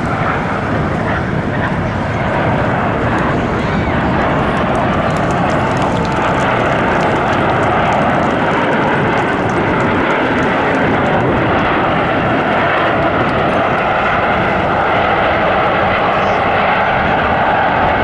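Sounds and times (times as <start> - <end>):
jet aircraft in flight: 0.0 - 18.0.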